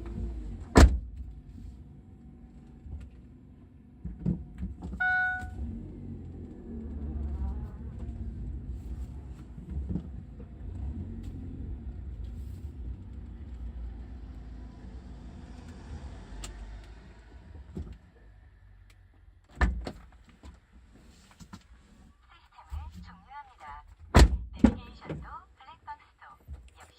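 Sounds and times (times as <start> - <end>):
road and engine rumble in car: 0.0 - 26.9.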